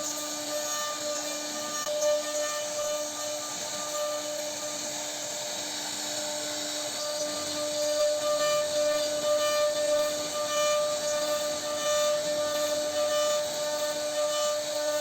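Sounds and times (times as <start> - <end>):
bit cutting wood hiss: 0.0 - 15.0
router spindle whining: 0.0 - 15.0.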